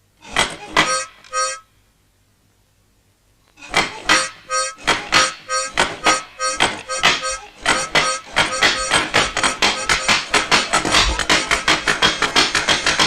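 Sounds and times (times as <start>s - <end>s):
cartoon music with harmonica: 0.2s - 1.7s, 3.6s - 13.0s.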